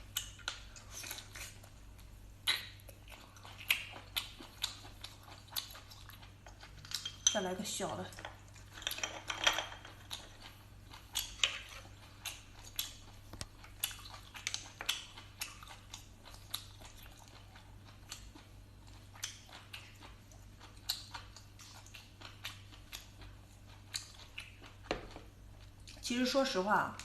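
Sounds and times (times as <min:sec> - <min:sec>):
wet chewing smacks: 0:00.0 - 0:07.0, 0:10.0 - 0:26.0.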